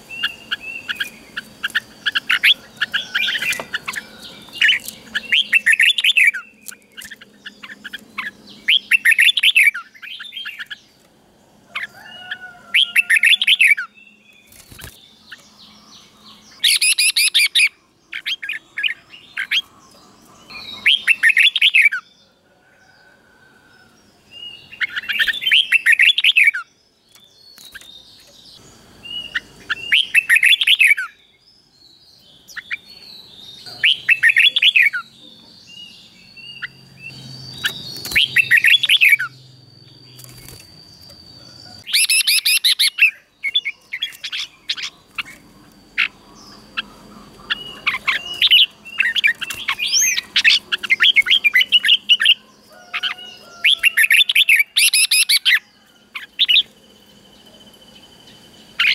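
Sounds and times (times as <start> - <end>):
bird whistled song: 0.0 - 10.9, 11.8 - 19.7, 20.4 - 22.3, 24.3 - 56.7.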